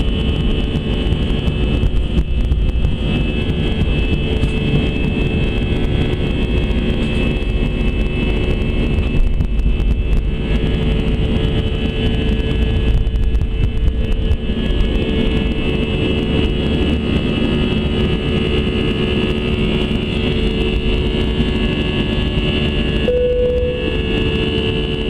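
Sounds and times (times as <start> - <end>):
jet engines at takeoff thrust: 0.0 - 25.0.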